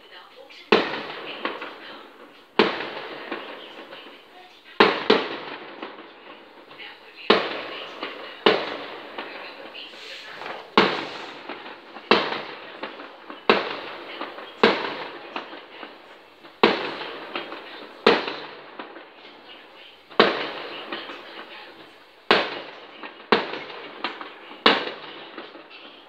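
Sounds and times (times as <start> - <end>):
firework shells bursting: 0.6 - 26.0.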